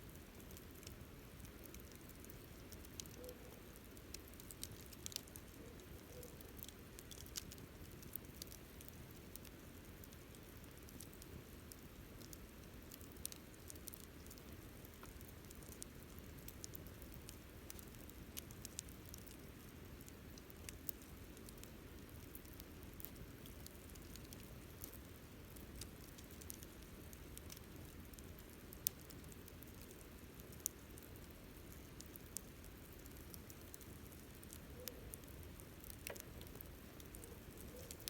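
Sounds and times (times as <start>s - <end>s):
campfire crackling and popping: 0.0s - 38.0s
low rush of fire: 3.7s - 38.0s.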